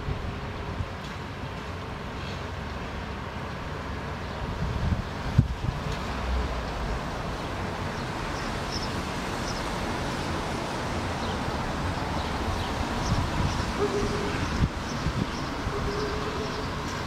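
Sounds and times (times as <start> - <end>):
distant traffic rumble: 0.0 - 17.0
wind: 0.0 - 17.0.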